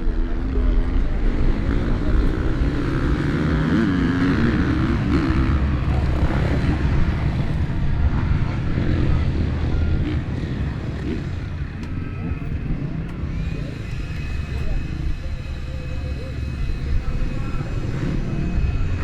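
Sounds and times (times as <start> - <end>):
motocross motorcycle engines running: 0.0 - 19.0.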